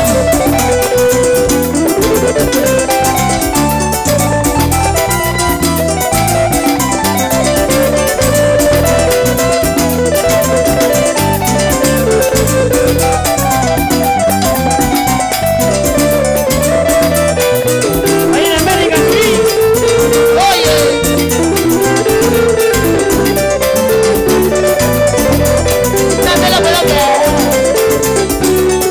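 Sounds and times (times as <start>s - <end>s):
latin dance band playing: 0.0s - 28.9s.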